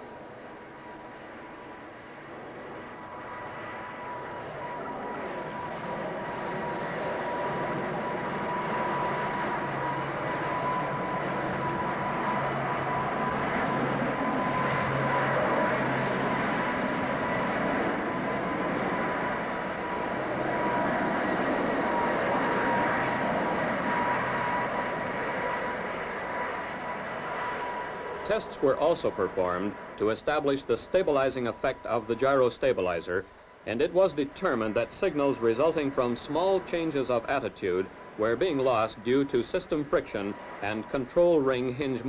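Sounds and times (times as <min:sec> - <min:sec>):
jet engine roar: 0:00.0 - 0:42.0.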